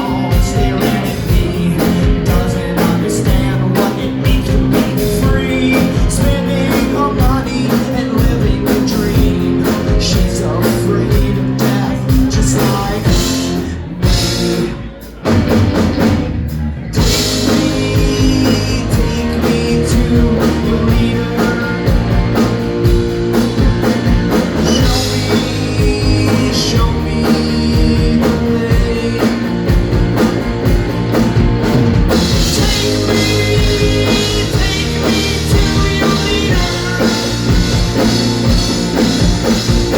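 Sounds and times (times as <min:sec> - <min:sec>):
person singing: 0:00.0 - 0:15.0, 0:16.6 - 0:30.3, 0:32.1 - 0:39.9
drum kit: 0:00.0 - 0:39.9
electric guitar: 0:00.0 - 0:39.9.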